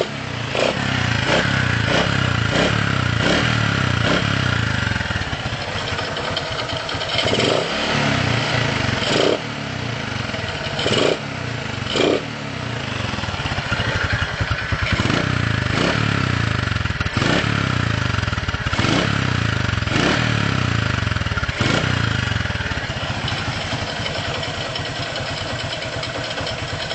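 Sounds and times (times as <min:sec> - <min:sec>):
rough motorcycle engine surging: 0:00.0 - 0:26.9.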